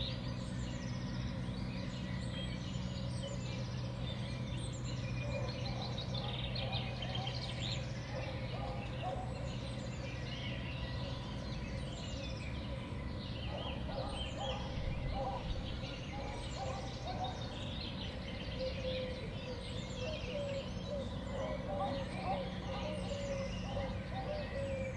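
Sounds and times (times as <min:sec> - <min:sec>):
low background hum: 0:00.0 - 0:24.9
songbirds chirping: 0:00.0 - 0:24.9.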